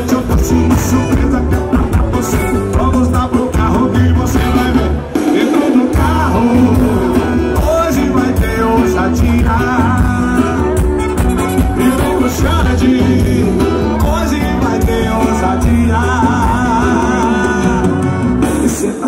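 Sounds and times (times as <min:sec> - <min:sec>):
lead vocalist singing: 0:00.0 - 0:19.0
live band music through pa: 0:00.0 - 0:19.0.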